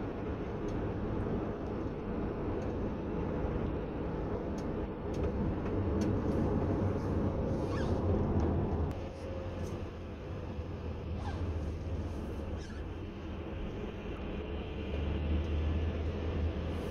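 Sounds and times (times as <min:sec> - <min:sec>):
car tyre and engine rumble: 0:00.0 - 0:16.9.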